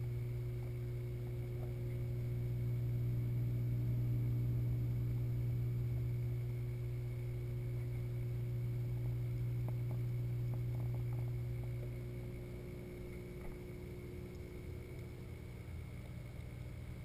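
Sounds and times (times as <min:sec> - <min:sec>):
aquarium pumps humming underwater: 0:00.0 - 0:17.0.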